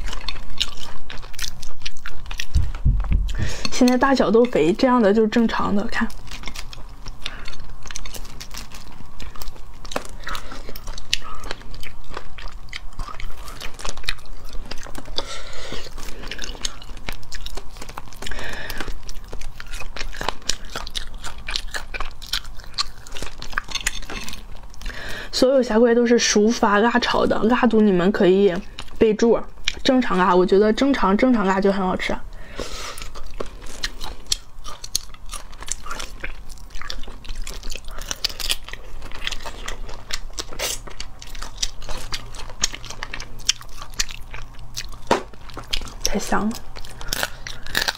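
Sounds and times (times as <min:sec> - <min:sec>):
chewing and biting: 0:00.0 - 0:25.2, 0:29.6 - 0:30.0, 0:32.5 - 0:47.9.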